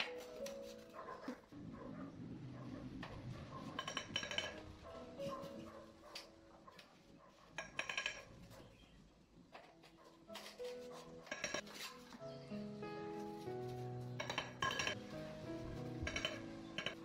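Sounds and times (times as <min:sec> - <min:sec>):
soft music: 0:00.0 - 0:17.0.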